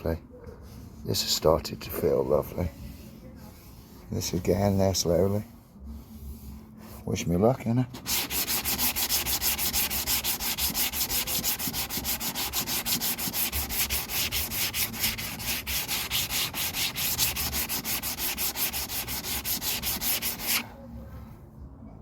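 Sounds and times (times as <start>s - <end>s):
sandpaper rubbing back and forth: 2.1s - 20.7s.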